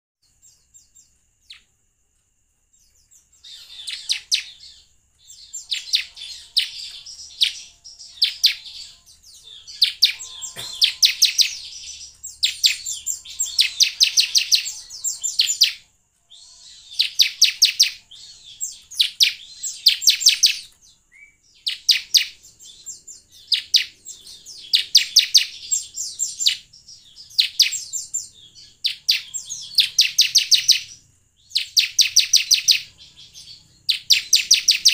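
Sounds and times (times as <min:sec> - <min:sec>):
bird singing rattling trills: 0:02.7 - 0:34.9.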